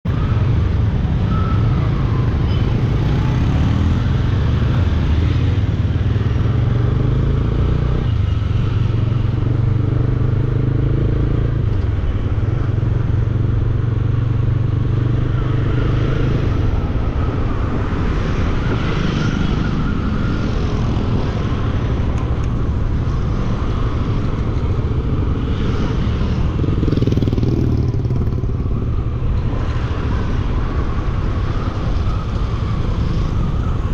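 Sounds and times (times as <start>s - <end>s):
road and wind noise: 0.0s - 33.9s.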